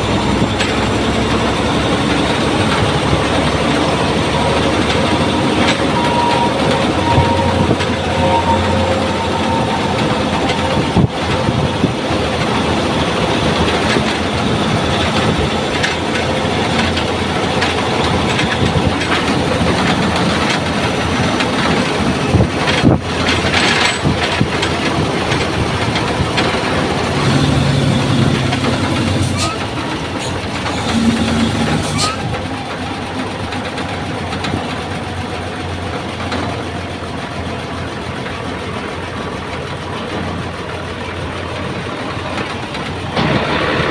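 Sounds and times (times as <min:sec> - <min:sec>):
heavy diesel machinery running: 0:00.0 - 0:43.9.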